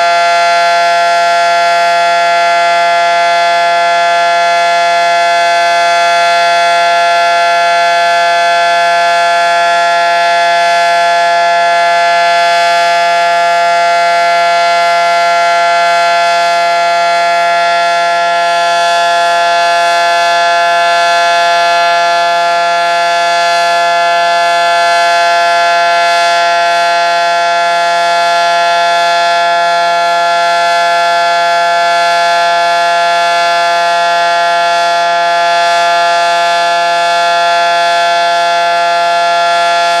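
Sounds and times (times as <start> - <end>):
dual-tone warning siren: 0.0 - 40.0.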